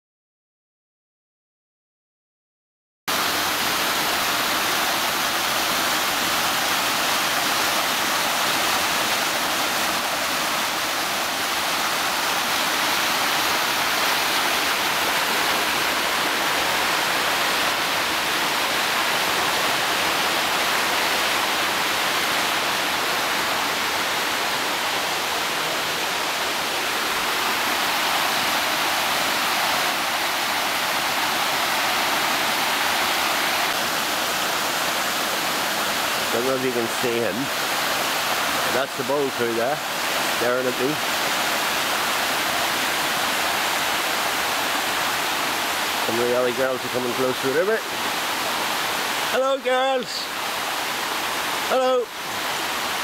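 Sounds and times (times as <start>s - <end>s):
waterfall rushing: 3.1s - 53.0s.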